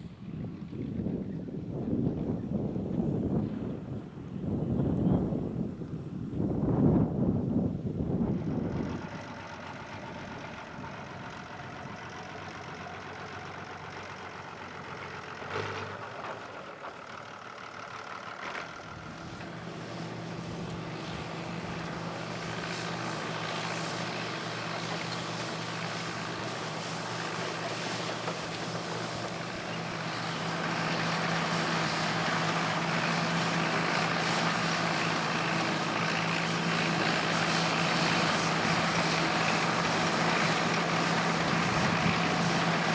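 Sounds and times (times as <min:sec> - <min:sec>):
farm machine engine running: 0:05.3 - 0:42.9.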